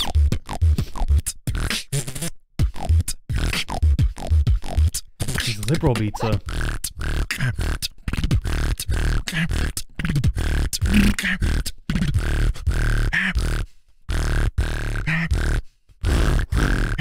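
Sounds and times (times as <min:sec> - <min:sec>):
beatboxing: 0:00.0 - 0:17.0.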